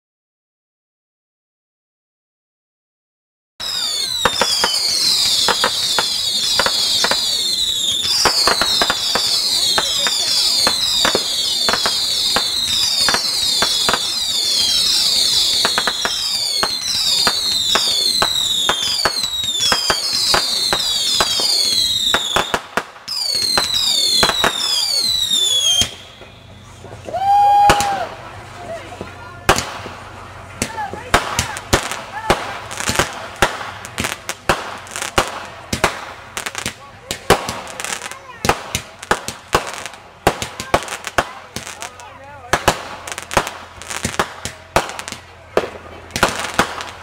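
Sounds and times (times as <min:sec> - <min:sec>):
firework pops and crackles: 0:03.6 - 0:28.2, 0:28.9 - 0:47.0
whistling fireworks: 0:03.6 - 0:28.3, 0:29.0 - 0:47.0.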